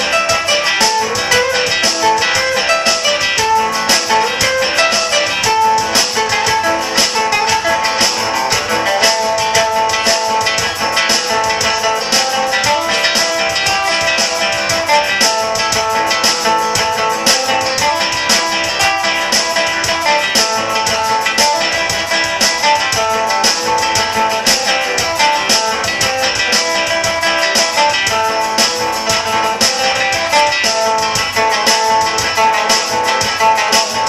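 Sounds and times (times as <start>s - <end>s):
plucked string melody: 0.0s - 34.0s
rapid strumming: 0.0s - 34.0s.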